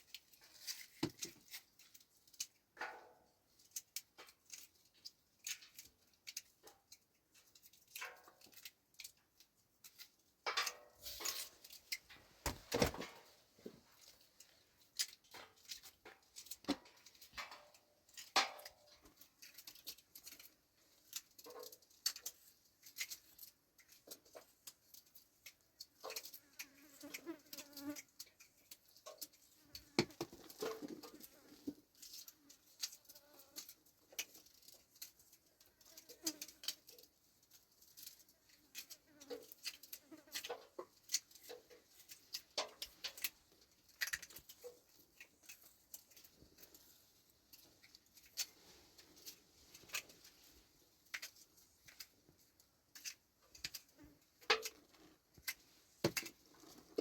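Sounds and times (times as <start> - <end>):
small clicks and crackles: 0.0 - 57.0.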